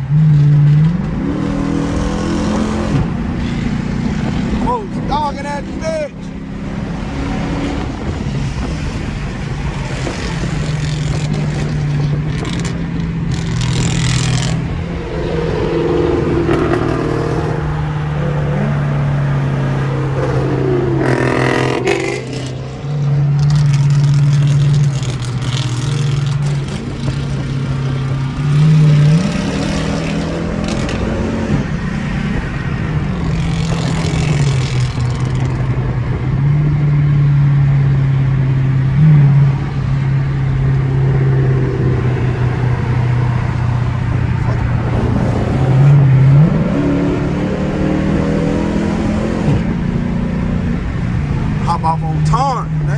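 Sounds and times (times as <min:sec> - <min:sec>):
road and wind noise: 0:00.0 - 0:52.9.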